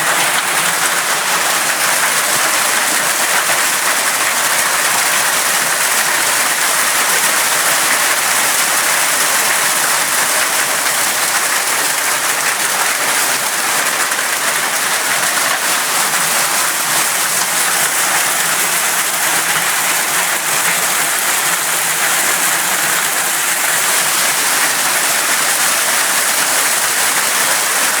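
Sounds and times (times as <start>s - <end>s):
hail and heavy rain clattering: 0.0s - 28.0s.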